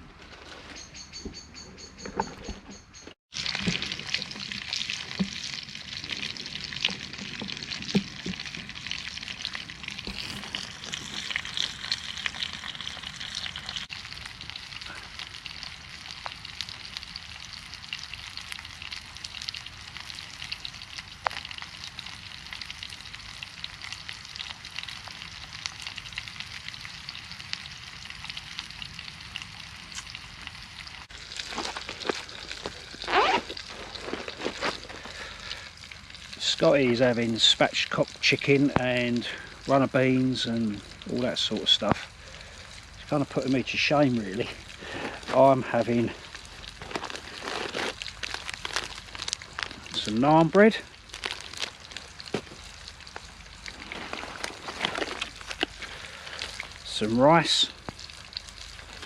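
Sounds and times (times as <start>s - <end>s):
food sizzling in a frying pan: 3.3s - 59.0s.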